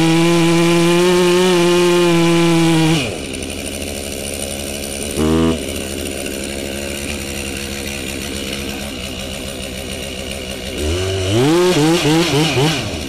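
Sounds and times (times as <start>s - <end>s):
chainsaw cutting tree trunk: 0.0s - 13.0s.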